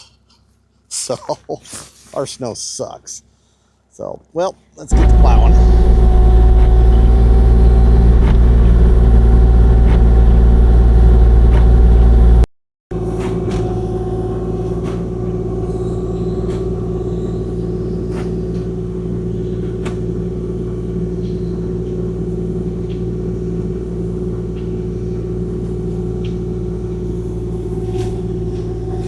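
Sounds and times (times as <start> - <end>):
excavator diesel engine running: 4.8 - 29.0.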